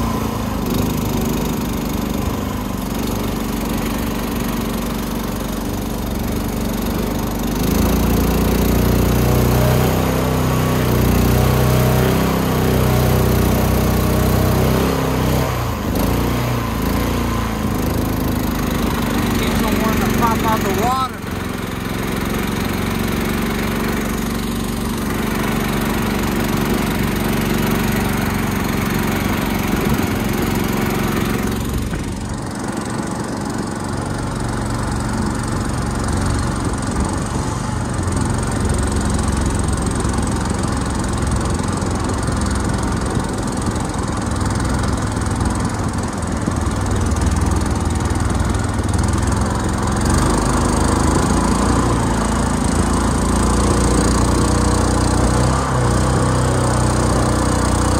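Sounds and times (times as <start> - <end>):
boat motor running: 0.0 - 57.9.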